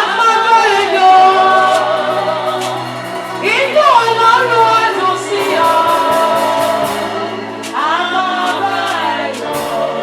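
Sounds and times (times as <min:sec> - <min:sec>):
gospel band music: 0:00.0 - 0:10.0.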